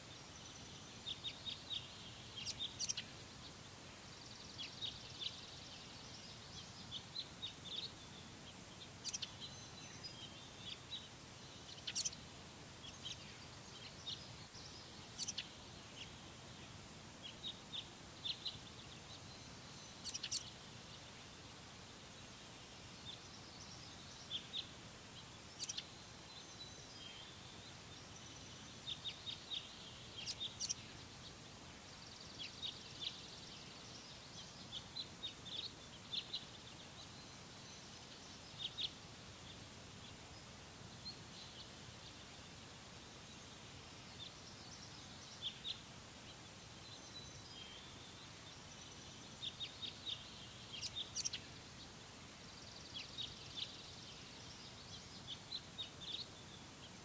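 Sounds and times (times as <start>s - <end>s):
faint steady hiss: 0.0s - 57.0s
songbirds chirping: 0.0s - 57.0s.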